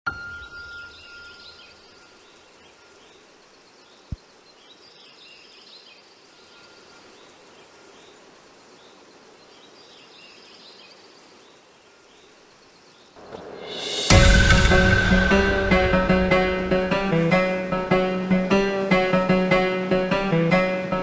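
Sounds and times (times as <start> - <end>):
songbird chirping: 0.1 - 21.0.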